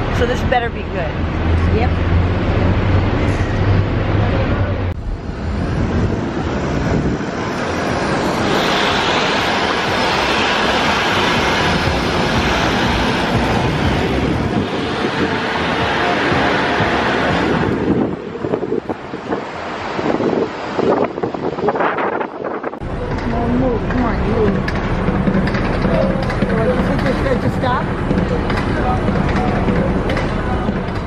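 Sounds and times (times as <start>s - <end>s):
low engine hum: 0.0s - 21.2s, 22.8s - 31.0s
wind rushing over microphone: 0.0s - 31.0s.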